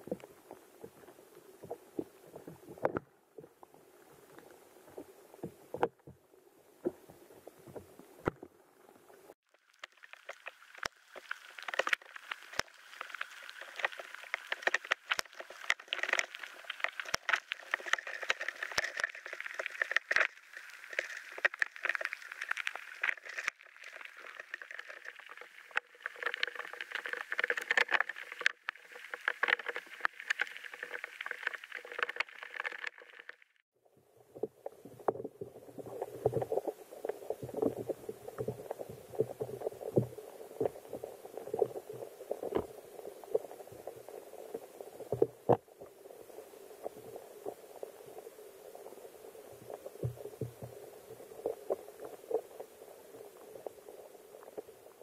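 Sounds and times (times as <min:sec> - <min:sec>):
small underwater clicks: 0:00.0 - 0:06.2, 0:06.8 - 0:33.6, 0:34.3 - 0:55.0
muffled underwater water noise: 0:00.0 - 0:55.0.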